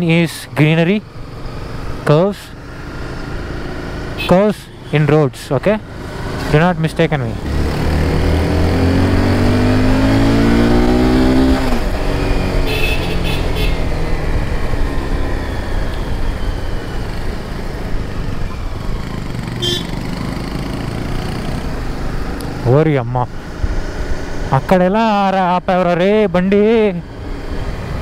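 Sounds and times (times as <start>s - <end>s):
road noise: 0.0s - 28.0s
motorcycle engine revving: 0.7s - 4.3s, 5.6s - 24.7s.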